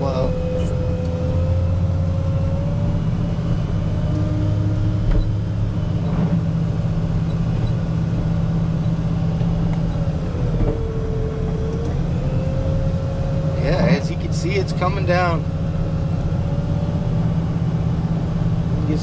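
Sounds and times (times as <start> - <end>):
diesel engine droning with whine: 0.0 - 19.0.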